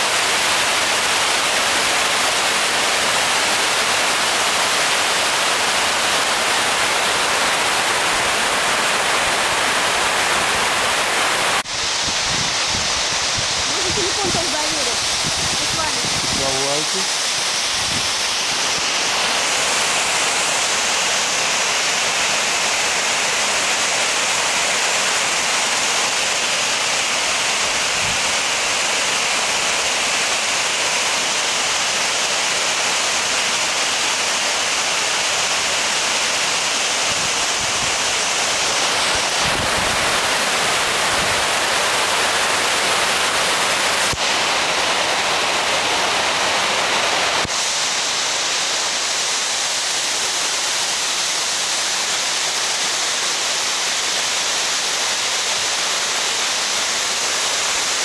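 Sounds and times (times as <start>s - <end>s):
water falling and splashing: 0.0s - 58.0s.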